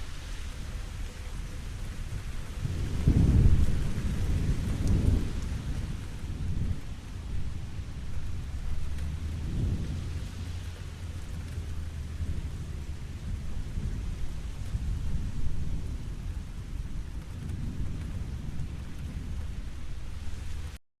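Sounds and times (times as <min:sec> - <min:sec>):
rain falling: 0:00.0 - 0:20.8
low rumble: 0:02.5 - 0:20.8.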